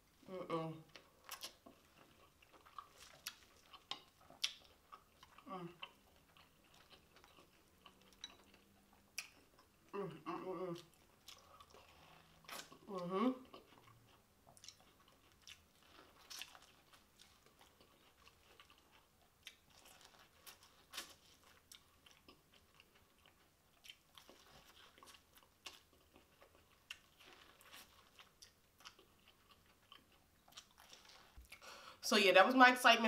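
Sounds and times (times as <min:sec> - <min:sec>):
chewing corn on the cob: 0:00.8 - 0:31.6.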